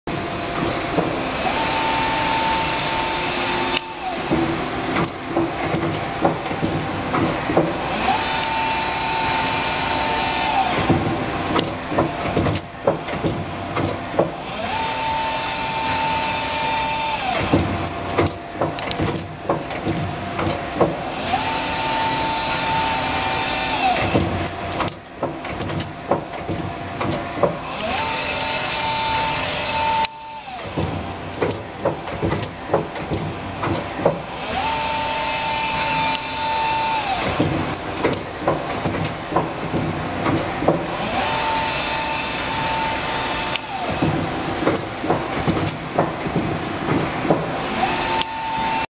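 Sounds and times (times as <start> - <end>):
machine spindle whine: 0.1 - 48.9.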